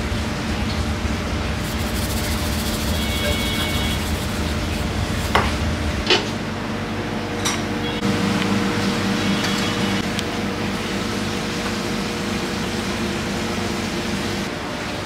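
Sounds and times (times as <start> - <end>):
kitchen machinery humming: 0.0 - 15.0.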